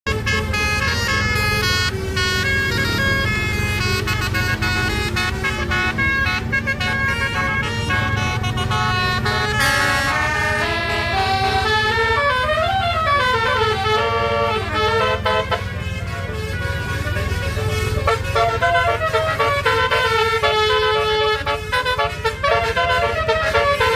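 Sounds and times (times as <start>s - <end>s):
multi-tone bus horn melody: 0.0s - 23.9s.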